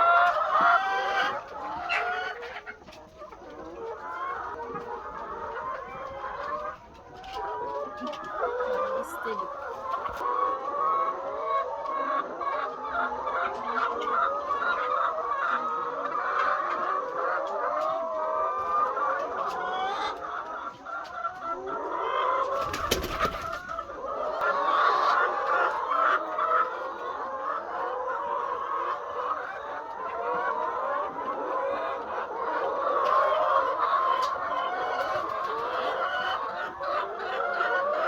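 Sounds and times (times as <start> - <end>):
hens clucking: 0.0 - 38.0.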